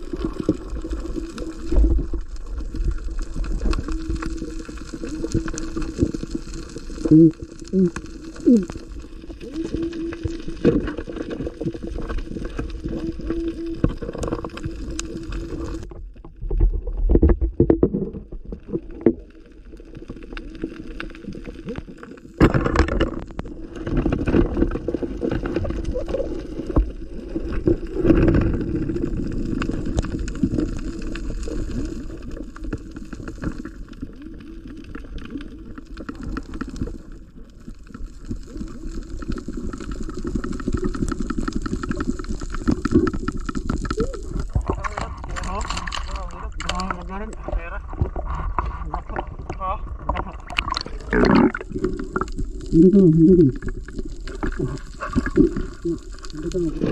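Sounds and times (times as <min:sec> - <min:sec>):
water gurgling underwater: 0:00.0 - 0:56.9.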